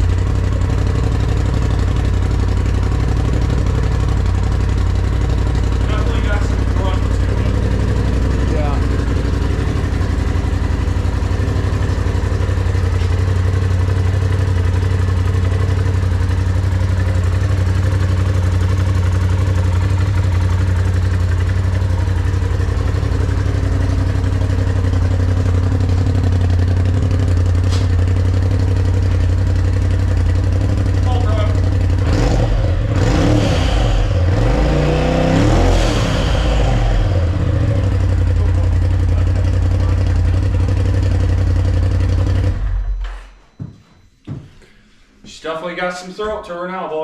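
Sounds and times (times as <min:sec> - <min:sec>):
engine idling with deep exhaust: 0:00.0 - 0:43.0.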